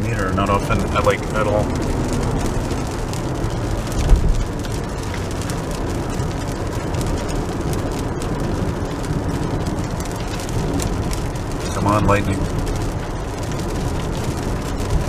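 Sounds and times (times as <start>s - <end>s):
car road and engine noise: 0.0s - 15.0s
rain on windshield: 0.0s - 15.0s.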